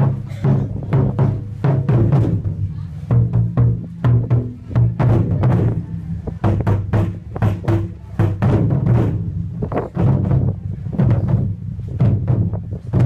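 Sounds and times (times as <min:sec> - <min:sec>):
barrel drums booming: 0:00.0 - 0:13.0.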